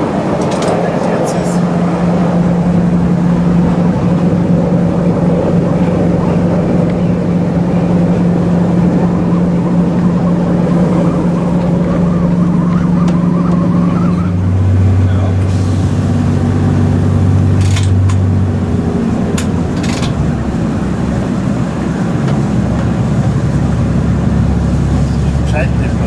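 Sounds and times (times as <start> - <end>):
railbus diesel engine drone: 0.0 - 26.0
train running noise: 0.0 - 26.0.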